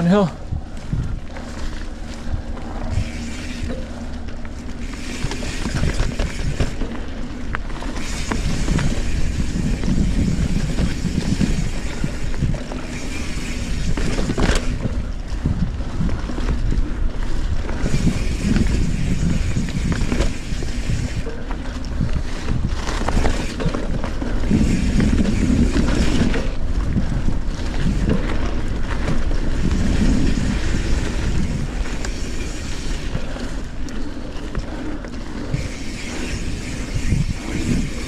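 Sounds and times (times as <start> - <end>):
bike knocking and rattling: 0.0 - 38.0
bike tyres rolling on dirt: 0.0 - 38.0
wind rumble on microphone: 0.0 - 38.0.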